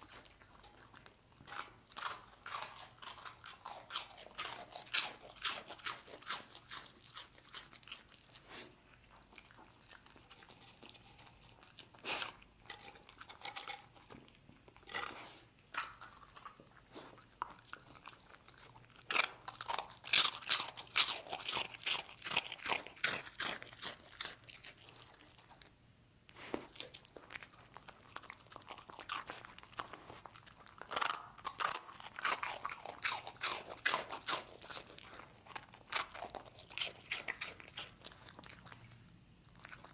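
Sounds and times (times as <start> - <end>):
dog crunching dry food: 0.0 - 25.7, 26.4 - 39.9.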